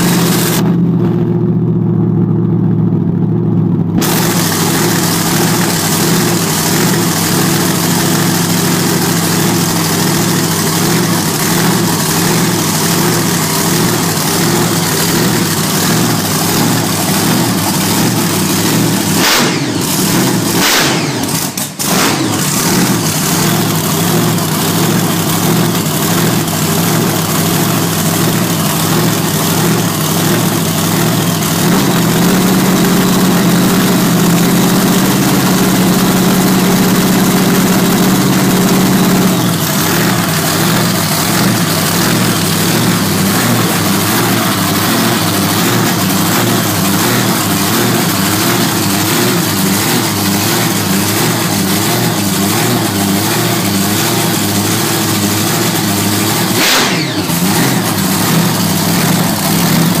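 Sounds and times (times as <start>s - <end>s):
engine idling loudly: 0.0s - 60.0s.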